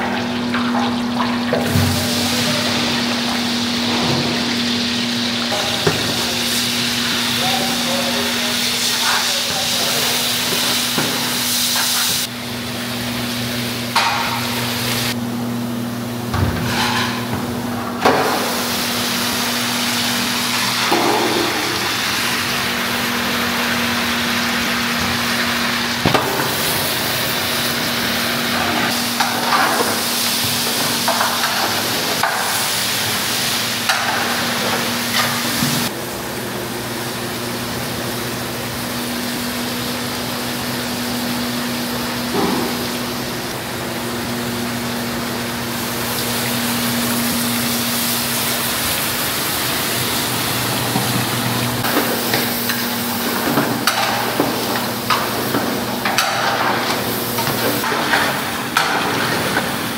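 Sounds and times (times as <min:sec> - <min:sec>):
onions sizzling in hot oil: 0:00.0 - 0:15.2, 0:18.2 - 0:35.9, 0:37.0 - 0:59.9.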